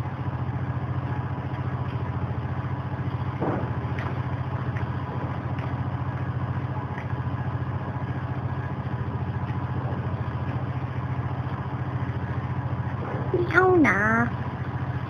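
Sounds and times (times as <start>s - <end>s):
motor running with even throb: 0.0s - 15.0s.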